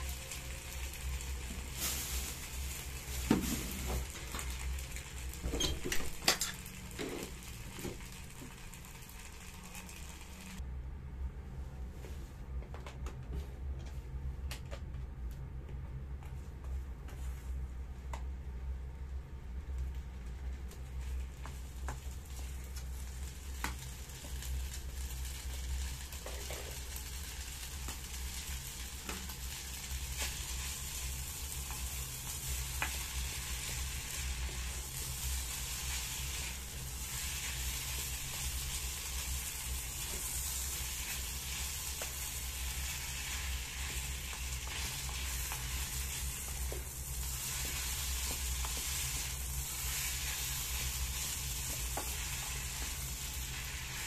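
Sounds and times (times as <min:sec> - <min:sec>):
rice sizzling in pan: 0:00.0 - 0:10.6, 0:19.9 - 0:54.0.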